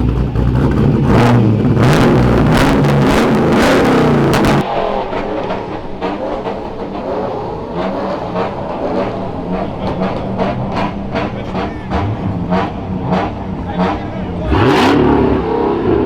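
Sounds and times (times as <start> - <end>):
car engine revving: 0.0 - 16.0
engine idling and blipping: 0.0 - 16.0.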